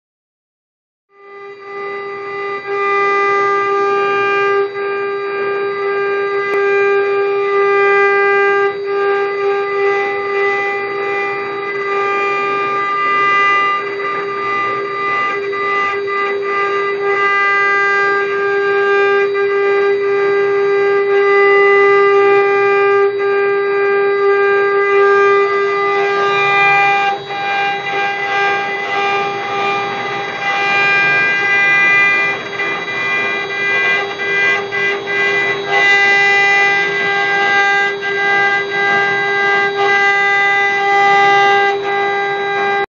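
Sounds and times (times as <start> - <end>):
high-pitched spindle whine: 1.1 - 42.9
router bits cutting wood: 1.1 - 42.9.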